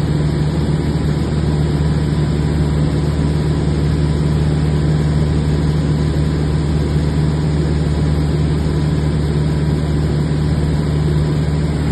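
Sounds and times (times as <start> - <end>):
light aircraft engine droning: 0.0 - 11.9.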